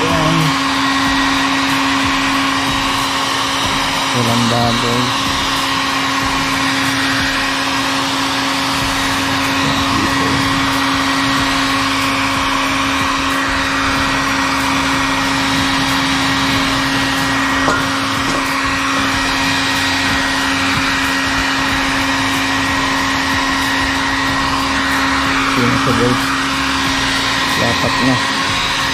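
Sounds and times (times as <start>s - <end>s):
hair dryer running: 0.0s - 28.9s.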